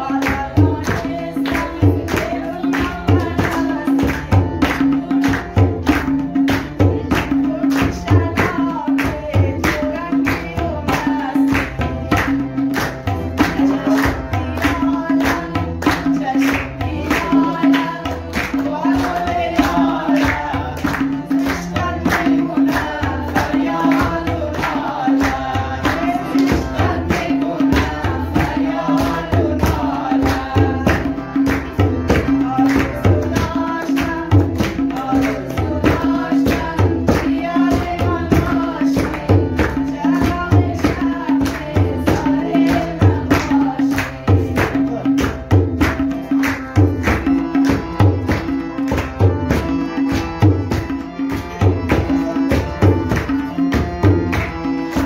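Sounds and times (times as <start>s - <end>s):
harmonium melody: 0.0s - 55.0s
tabla rhythm: 0.0s - 55.0s.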